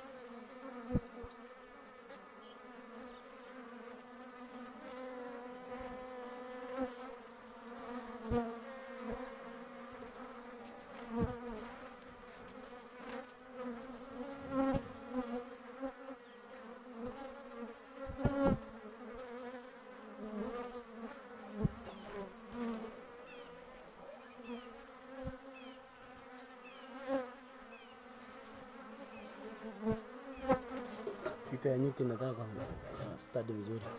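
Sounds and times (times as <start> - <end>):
honeybee buzzing: 0.0 - 33.9.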